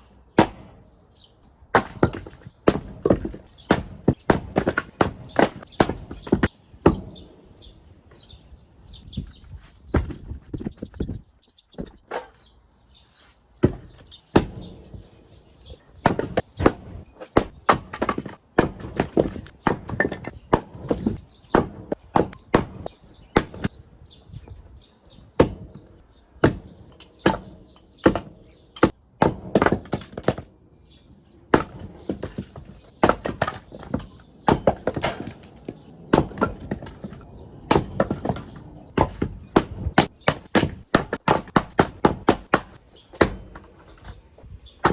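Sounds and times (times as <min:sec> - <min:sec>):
axe chopping firewood: 0:00.3 - 0:00.9, 0:01.6 - 0:07.4, 0:09.9 - 0:11.0, 0:11.8 - 0:12.5, 0:13.6 - 0:23.8, 0:25.2 - 0:30.5, 0:31.5 - 0:44.9.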